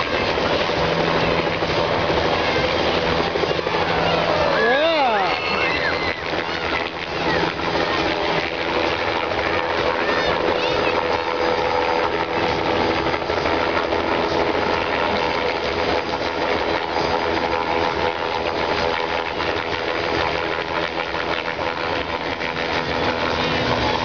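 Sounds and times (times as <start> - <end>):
helicopter hovering: 0.0 - 24.0.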